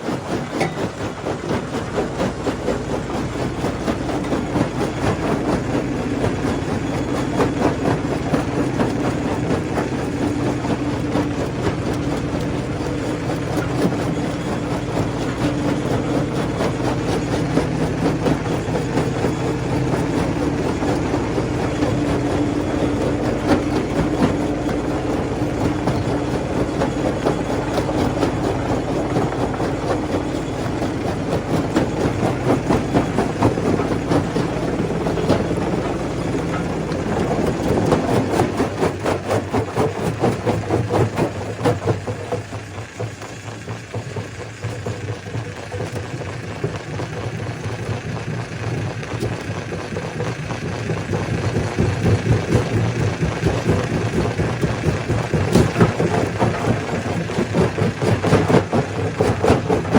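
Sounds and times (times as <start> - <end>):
stone crusher hum: 0.0 - 47.6, 48.2 - 59.9.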